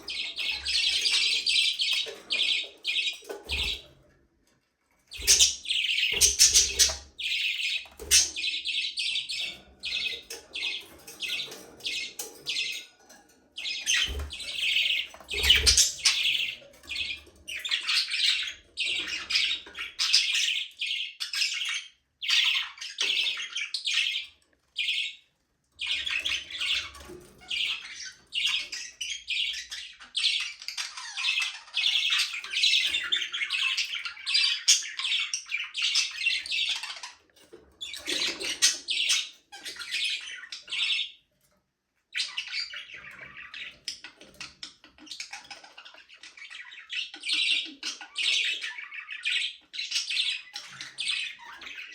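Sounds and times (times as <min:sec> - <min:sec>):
budgerigars chattering: 0:00.0 - 0:03.9, 0:05.1 - 0:12.9, 0:13.6 - 0:24.2, 0:25.8 - 0:37.2, 0:42.2 - 0:51.9.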